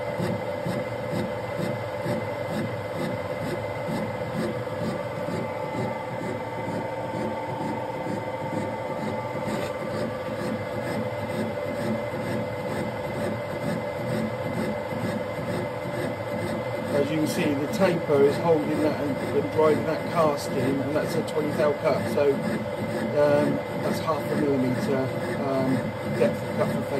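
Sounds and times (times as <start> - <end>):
metal lathe cutting: 0.0 - 26.9.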